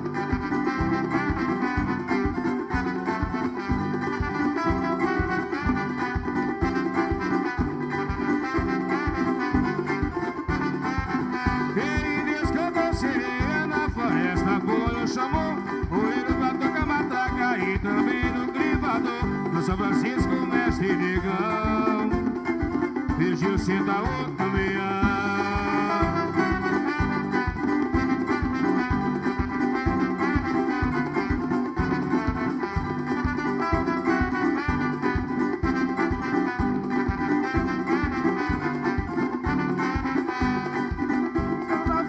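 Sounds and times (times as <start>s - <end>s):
melodic instrument lines: 0.0s - 42.0s
quick drum beat: 0.0s - 42.0s.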